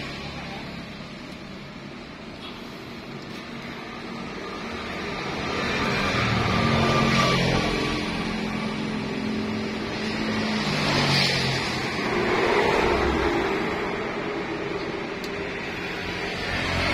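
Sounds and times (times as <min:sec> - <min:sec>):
street traffic noise: 0:00.0 - 0:16.9.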